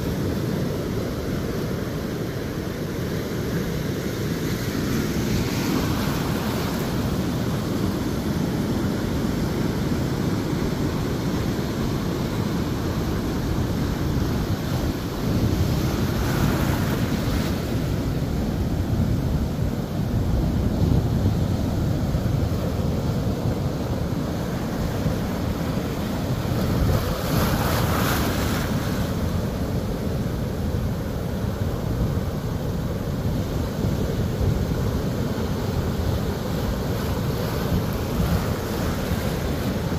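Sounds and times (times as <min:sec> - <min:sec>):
water rushing over sand: 0:00.0 - 0:39.9
ocean surf breaking: 0:00.1 - 0:39.9.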